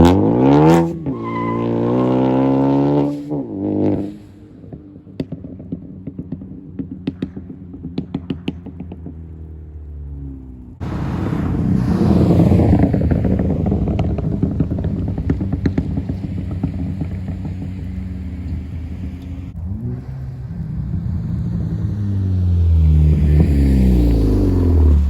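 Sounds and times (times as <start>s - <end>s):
car engine revving: 0.0s - 25.0s
exhaust popping and crackling: 0.0s - 25.0s.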